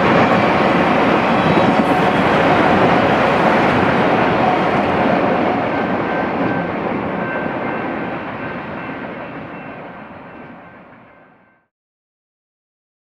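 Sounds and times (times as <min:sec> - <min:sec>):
train wheels rumbling: 0:00.0 - 0:11.3.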